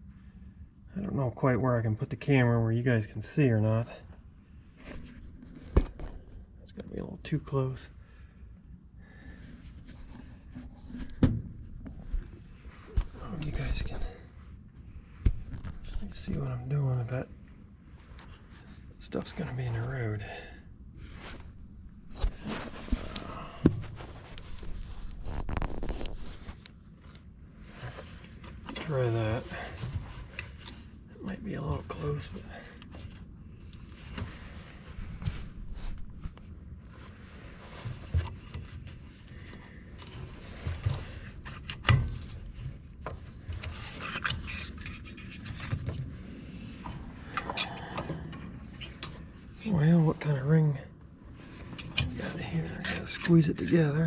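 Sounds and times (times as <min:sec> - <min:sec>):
rustling and scraping: 0:04.5 - 0:07.9, 0:09.1 - 0:20.4, 0:21.0 - 0:54.0.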